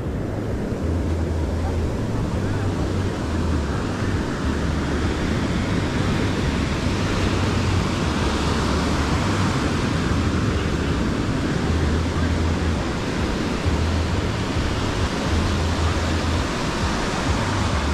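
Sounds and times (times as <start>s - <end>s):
surf breaking on beach: 0.0s - 17.9s
wind rumble on microphone: 0.0s - 17.9s.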